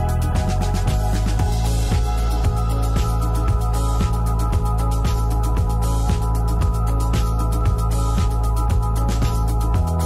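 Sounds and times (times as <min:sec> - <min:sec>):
electronic music with steady beat: 0:00.0 - 0:10.0
held bass line: 0:00.0 - 0:10.0.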